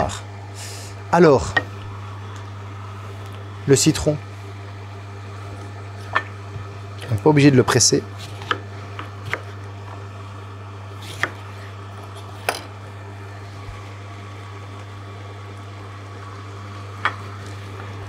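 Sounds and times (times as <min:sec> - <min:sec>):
juicer motor humming: 0:00.0 - 0:18.0.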